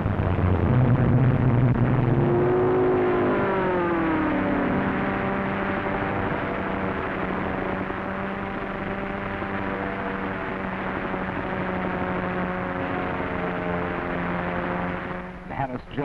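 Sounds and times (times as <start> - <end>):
piston aircraft engines droning: 0.0 - 16.0
old film soundtrack hiss: 2.2 - 16.0.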